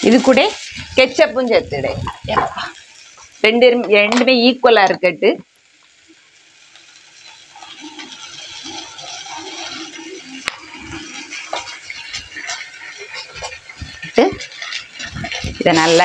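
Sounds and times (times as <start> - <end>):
sauce sizzling in a frying pan: 0.0 - 16.0.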